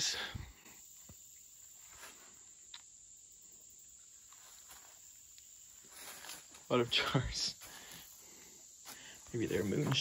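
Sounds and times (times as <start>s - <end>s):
faint insect chorus: 0.0s - 10.0s.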